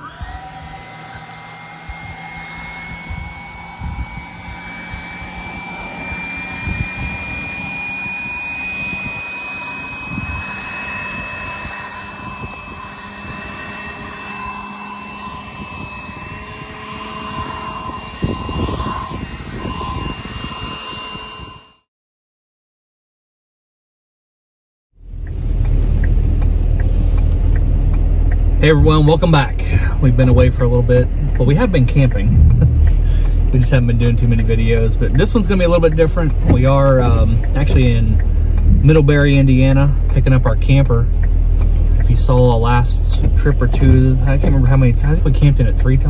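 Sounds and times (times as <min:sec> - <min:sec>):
battery blower motor whine: 0:00.0 - 0:21.9, 0:25.0 - 0:46.0.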